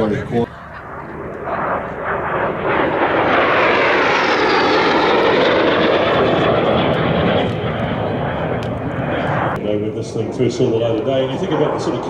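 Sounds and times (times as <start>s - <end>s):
high jet whine falling in pitch: 0.0s - 12.0s
jet roar flying past: 0.0s - 12.0s.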